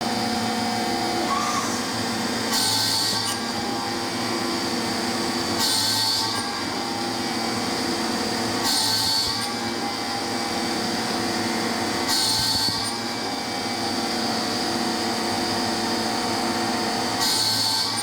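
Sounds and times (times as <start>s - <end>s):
high-pitched drilling noise: 1.0s - 18.0s.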